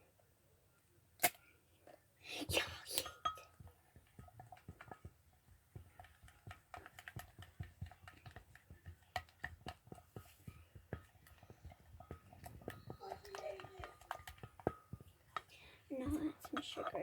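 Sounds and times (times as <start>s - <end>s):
utensil tapping in a bowl: 2.6s - 17.0s.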